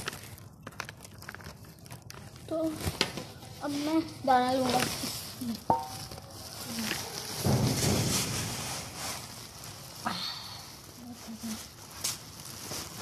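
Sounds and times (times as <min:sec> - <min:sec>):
grain rustling: 0:00.0 - 0:13.0.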